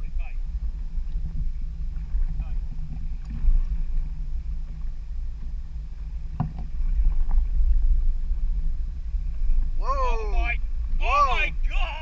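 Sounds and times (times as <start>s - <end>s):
choppy water: 0.0s - 12.0s
wind rumble: 0.0s - 12.0s.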